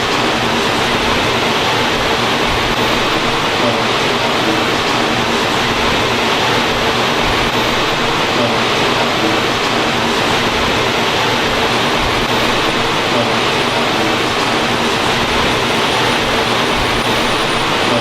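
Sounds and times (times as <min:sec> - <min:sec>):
production line machinery roar: 0:00.0 - 0:18.0.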